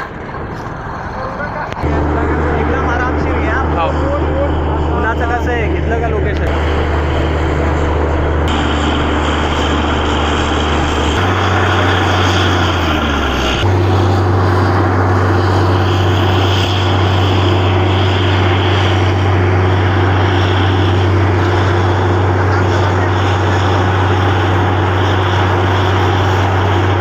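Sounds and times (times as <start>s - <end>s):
drilling rig engine drone: 0.0s - 27.0s.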